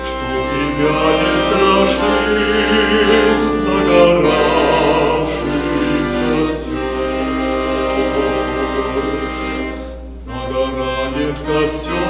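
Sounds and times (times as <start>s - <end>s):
hymn singing: 0.0s - 12.0s
instrumental accompaniment: 0.0s - 12.0s.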